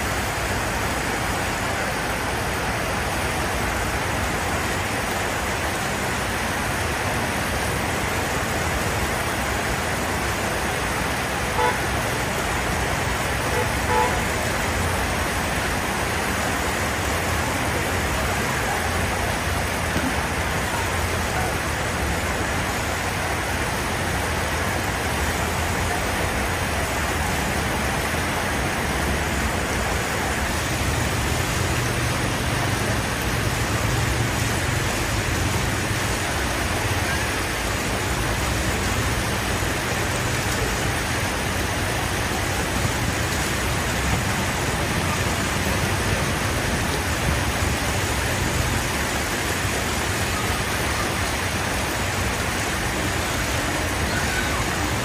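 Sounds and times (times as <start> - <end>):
traffic hiss: 0.0 - 55.0.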